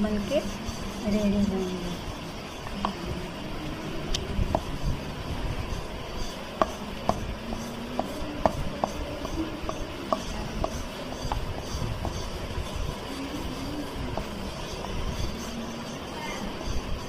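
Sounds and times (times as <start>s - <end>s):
rolling pin rolling dough: 0.0s - 17.0s.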